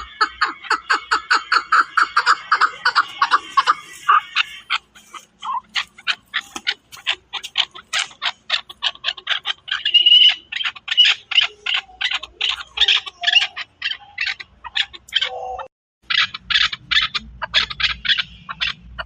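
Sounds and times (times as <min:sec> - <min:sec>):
partridge calling sharp chuck notes: 0:00.0 - 0:15.4.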